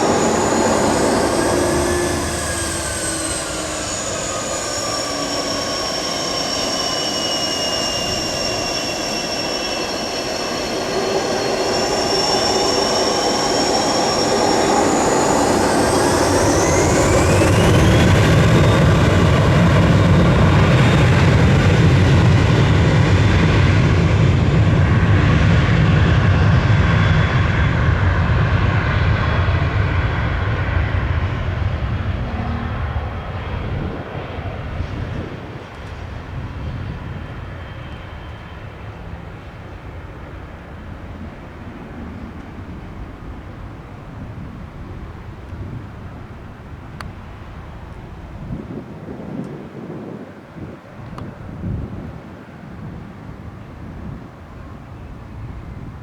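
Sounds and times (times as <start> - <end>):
jet engine deep roar: 0.0 - 56.0
jet engines whining: 0.0 - 56.0.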